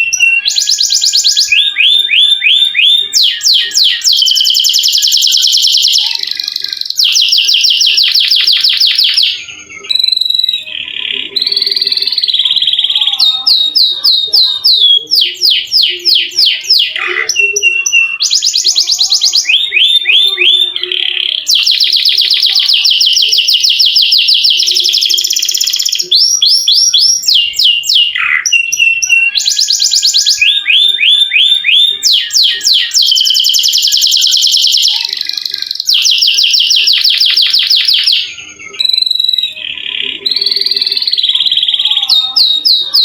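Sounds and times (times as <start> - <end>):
canary singing trills: 0.0 - 43.0.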